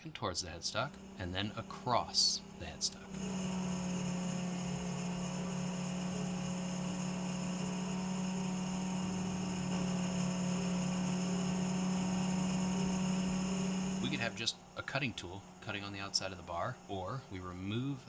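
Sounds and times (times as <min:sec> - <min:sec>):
lathe motor humming: 0:00.5 - 0:18.0.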